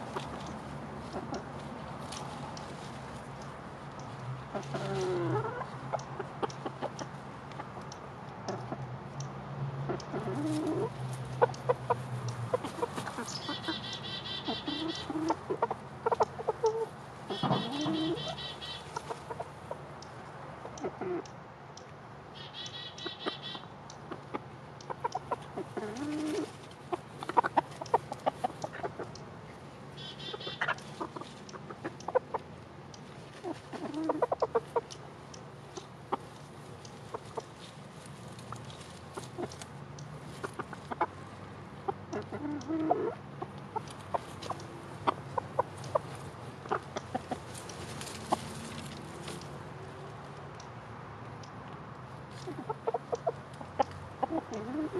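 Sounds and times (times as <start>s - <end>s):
birds pecking at ground: 0.0s - 54.9s
chickens clucking softly: 0.0s - 54.9s.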